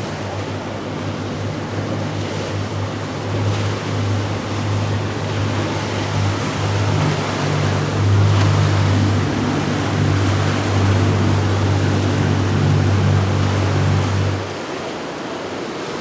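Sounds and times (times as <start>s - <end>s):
motorboat engines droning: 0.0s - 14.9s
rushing water: 0.0s - 16.0s
wind: 0.0s - 16.0s.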